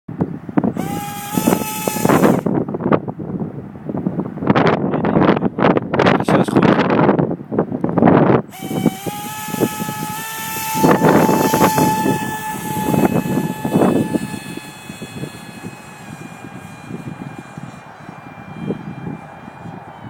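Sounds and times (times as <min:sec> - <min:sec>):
wind buffeting microphone: 0:00.1 - 0:20.0
electric motor propeller whine: 0:00.2 - 0:04.6, 0:08.2 - 0:20.0.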